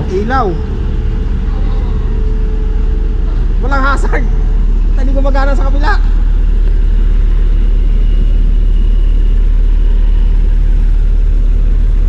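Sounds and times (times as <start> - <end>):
diesel bus engine idling: 0.0 - 12.0.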